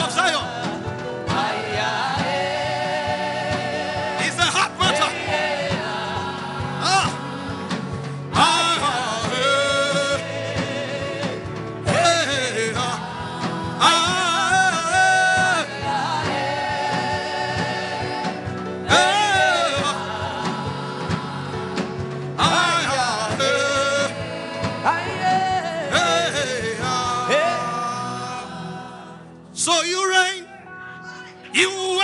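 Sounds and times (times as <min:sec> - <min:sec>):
solo voice singing: 0:00.0 - 0:20.8, 0:22.4 - 0:28.7.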